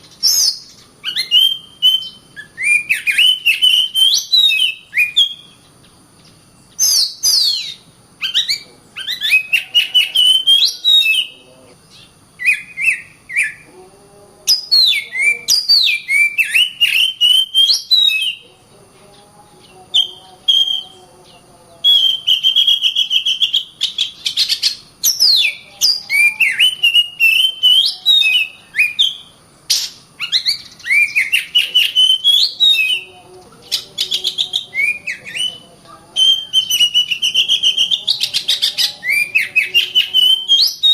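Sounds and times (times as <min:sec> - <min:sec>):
songbird singing whistled notes: 0:00.0 - 0:13.7, 0:14.4 - 0:40.9.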